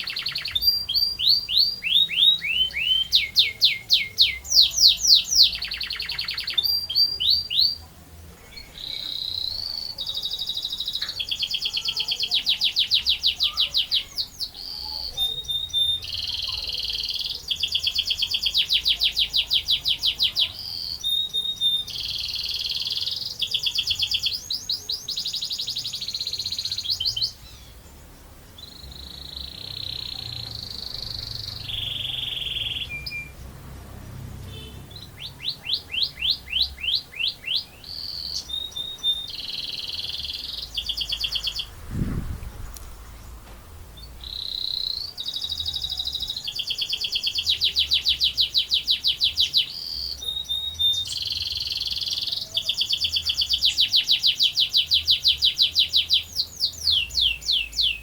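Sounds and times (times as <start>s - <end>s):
canary singing: 0.0s - 41.8s, 43.2s - 58.0s.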